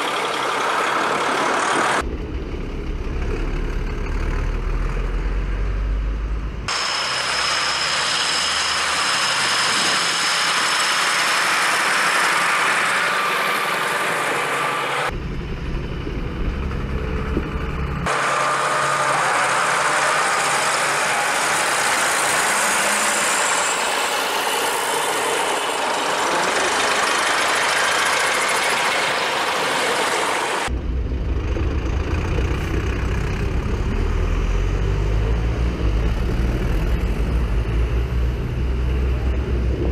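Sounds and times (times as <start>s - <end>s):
diesel tractor engines: 0.0s - 39.9s.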